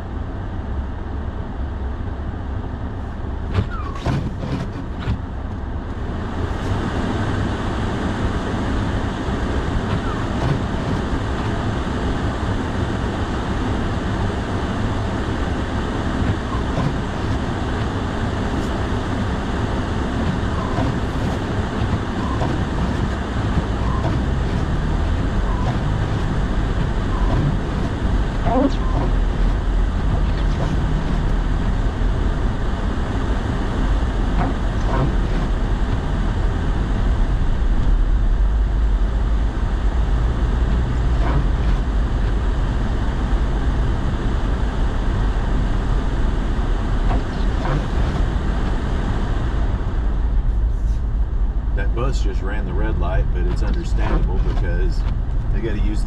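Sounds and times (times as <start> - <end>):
road and engine noise in cab: 0.0 - 56.0.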